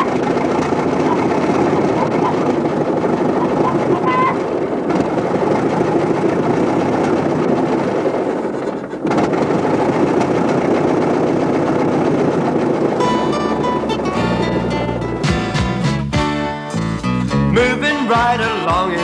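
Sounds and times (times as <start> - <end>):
car engine running: 0.0 - 18.9.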